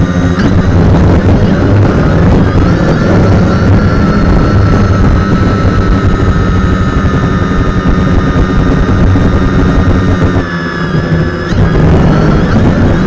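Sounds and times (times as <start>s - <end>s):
drone motor whine: 0.0s - 13.0s
propeller wash rumbling: 0.0s - 13.0s
wind buffeting microphone: 0.0s - 13.0s.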